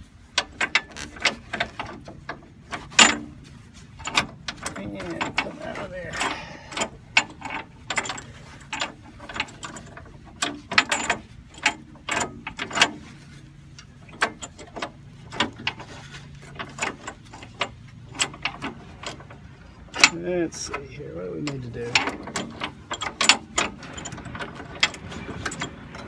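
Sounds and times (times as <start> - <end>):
metal clicks and clanks: 0.3 - 26.0.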